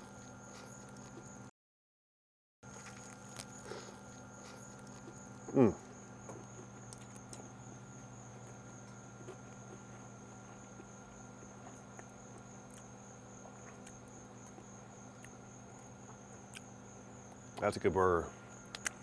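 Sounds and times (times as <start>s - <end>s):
insects trilling: 0.0s - 1.5s, 2.6s - 19.0s.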